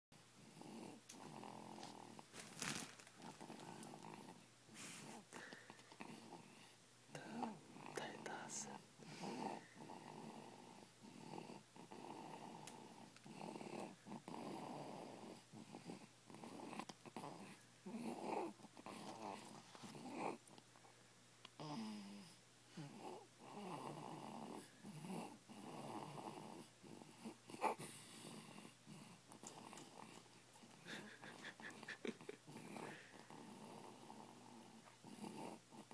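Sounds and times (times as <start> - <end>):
person snoring softly: 0.4 - 2.3, 3.2 - 20.5, 21.6 - 35.9.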